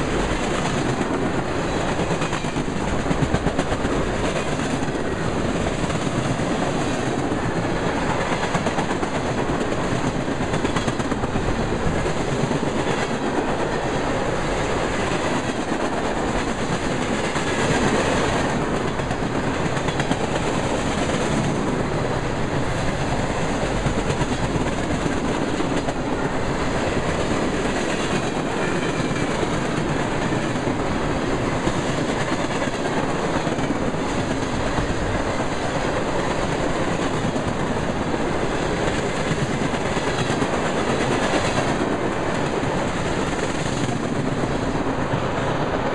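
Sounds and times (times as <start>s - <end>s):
clickety-clack over rail joints: 0.0s - 45.9s
train wheels rumbling on rails: 0.0s - 45.9s.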